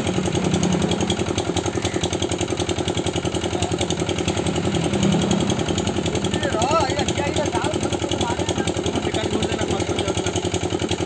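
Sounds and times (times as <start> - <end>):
small engine water pump puttering: 0.0 - 11.0.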